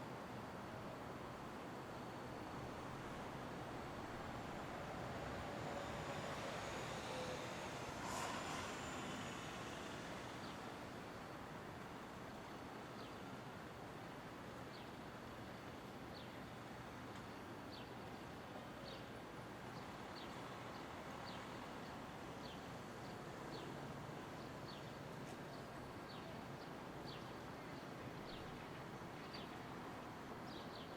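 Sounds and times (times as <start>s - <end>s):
city street noise: 0.0s - 30.9s.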